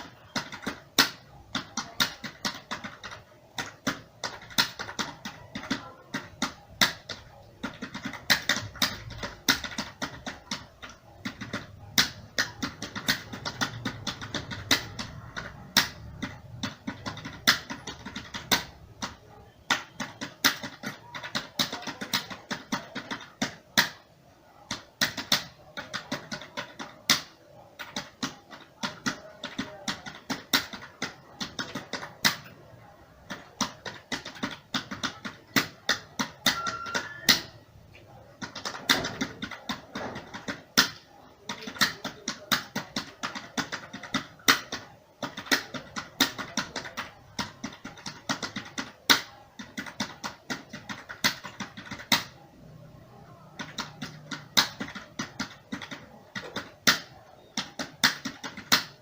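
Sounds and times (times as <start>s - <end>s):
keyboard typing: 0.0s - 59.0s.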